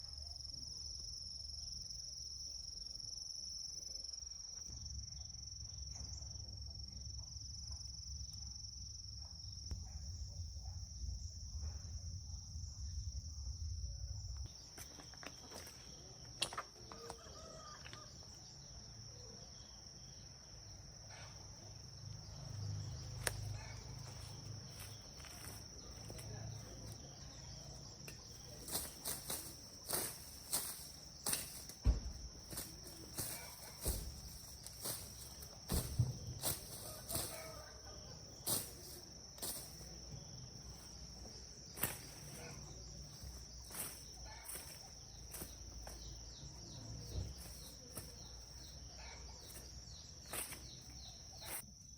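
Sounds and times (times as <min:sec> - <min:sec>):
crickets chirring: 0:00.0 - 0:51.9.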